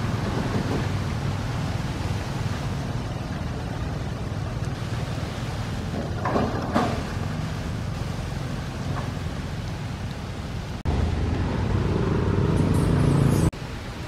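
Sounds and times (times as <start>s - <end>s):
constant hiss: 0.0s - 11.7s.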